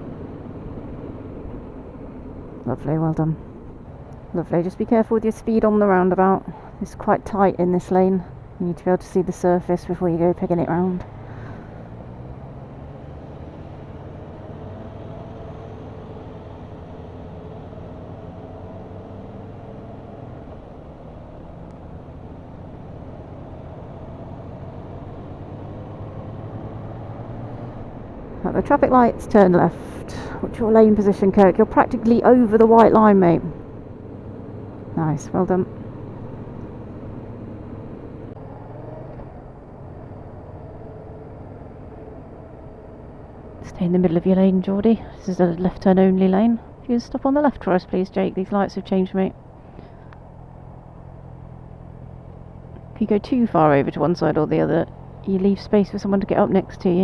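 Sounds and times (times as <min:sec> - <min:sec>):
motorcycle engine hum: 0:00.0 - 0:57.0
wind and road noise: 0:00.0 - 0:57.0.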